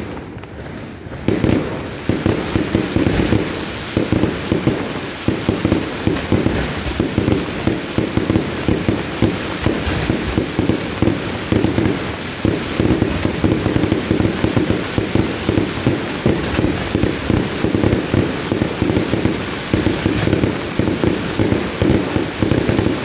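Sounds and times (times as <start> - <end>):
fireworks shells bursting: 1.2 - 23.0.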